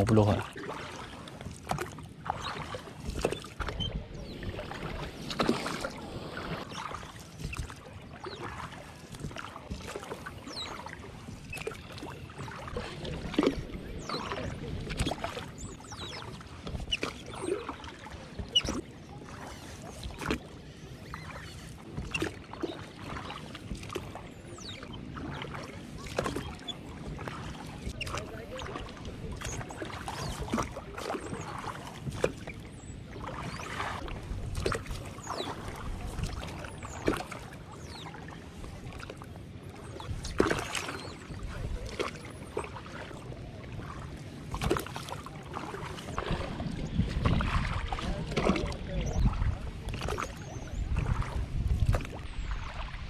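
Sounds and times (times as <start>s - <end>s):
low wash of water: 0.0s - 53.0s
oars splashing and knocking: 0.0s - 53.0s.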